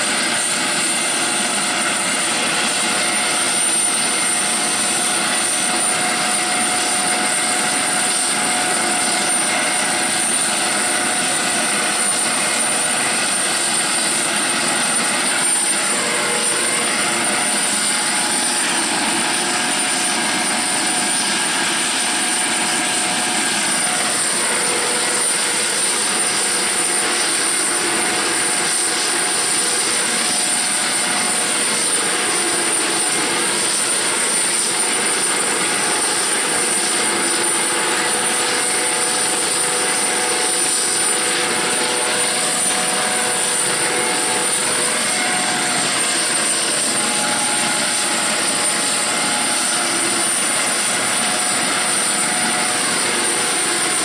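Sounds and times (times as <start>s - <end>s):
helicopter rotors and turbine whine: 0.0s - 54.0s.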